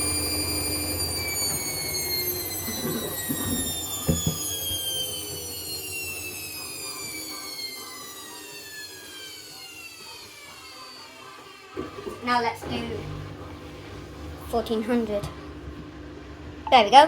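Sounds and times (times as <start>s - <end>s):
washing machine motor winding down: 0.0s - 17.0s.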